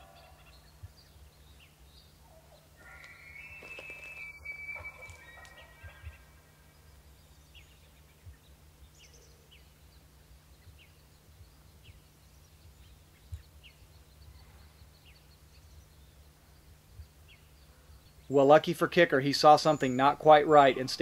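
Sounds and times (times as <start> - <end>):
low rumble and hum: 0.0 - 3.6, 4.2 - 18.3
small bird chirping: 0.0 - 18.3.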